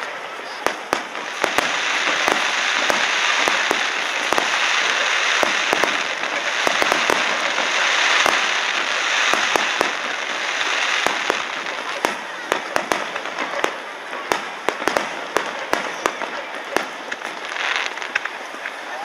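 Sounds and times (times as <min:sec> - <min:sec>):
fireworks crackling: 0:00.0 - 0:19.0
fireworks popping: 0:00.0 - 0:19.0.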